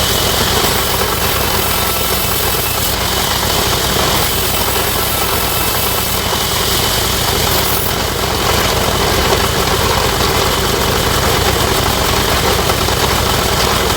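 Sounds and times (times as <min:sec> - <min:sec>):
sawmill machinery droning: 0:00.0 - 0:13.9.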